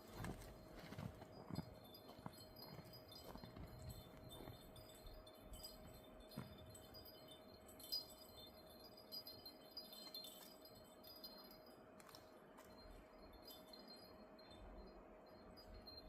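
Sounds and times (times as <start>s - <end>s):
high metallic tinkling: 0.0s - 16.0s
steady low hum: 0.0s - 16.0s.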